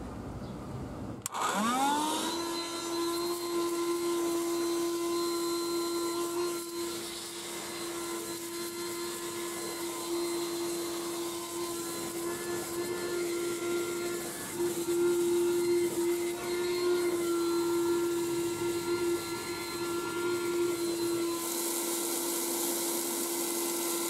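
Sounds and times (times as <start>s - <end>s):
vacuum motor whine: 1.2s - 24.0s.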